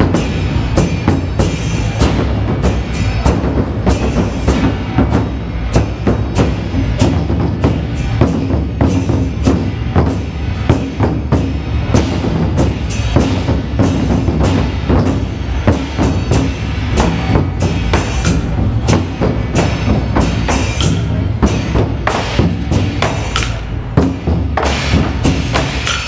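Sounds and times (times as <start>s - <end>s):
barrel drums booming: 0.0s - 26.0s
sharp clacking drum hits: 0.0s - 26.0s.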